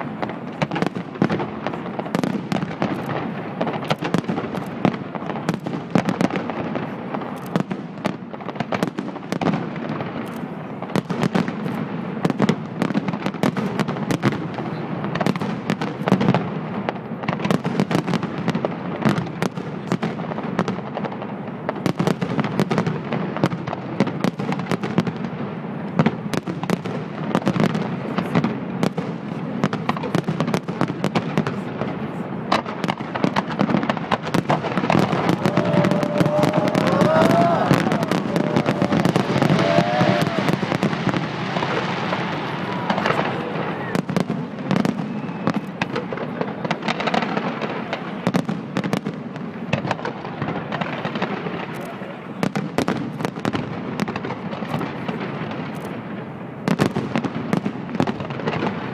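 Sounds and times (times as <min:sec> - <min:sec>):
fireworks crackling and popping: 0:00.0 - 0:58.9
loud firework bangs: 0:00.0 - 0:58.9.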